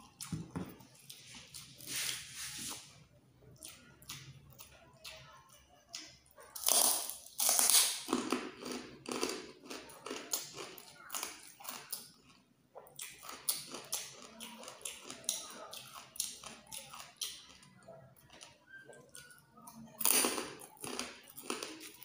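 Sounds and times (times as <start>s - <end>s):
crunching and chewing crispy food: 0.0s - 22.0s.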